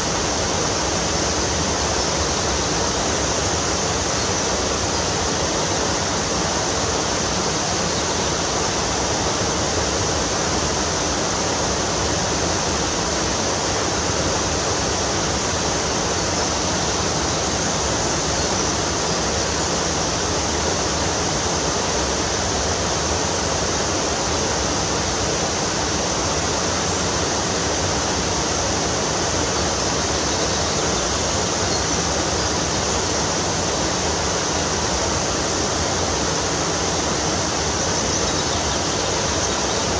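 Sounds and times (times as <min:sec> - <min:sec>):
fast-flowing river water: 0:00.0 - 0:39.9.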